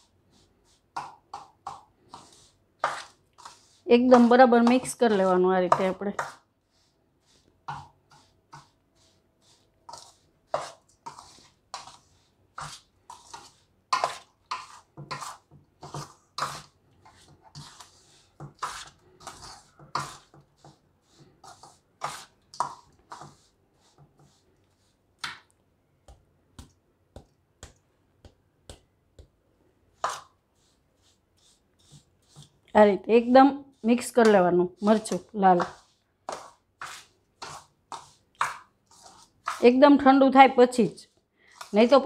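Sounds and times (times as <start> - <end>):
spoon scraping a steel bowl: 0.0 - 6.5, 7.3 - 24.8, 29.9 - 42.0.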